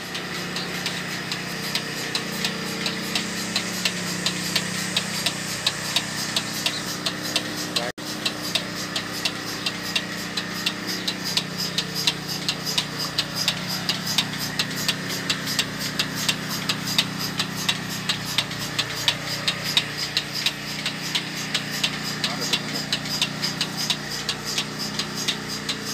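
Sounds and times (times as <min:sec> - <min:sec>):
milking pulsator clicking: 0:00.0 - 0:25.9
vacuum pump hum: 0:00.0 - 0:25.9.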